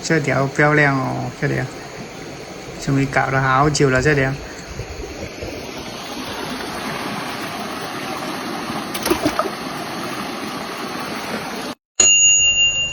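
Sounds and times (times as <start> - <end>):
flowing river water: 0.5 - 11.8.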